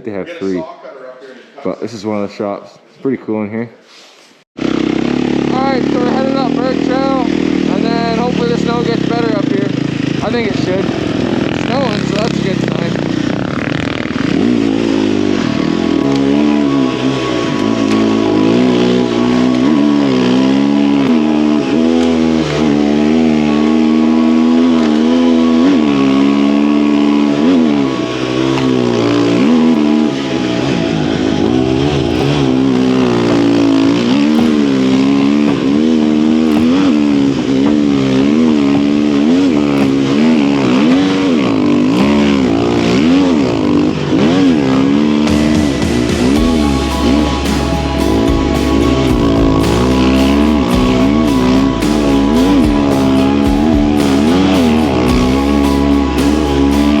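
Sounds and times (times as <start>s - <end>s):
snow bike engine revving: 4.6s - 57.0s.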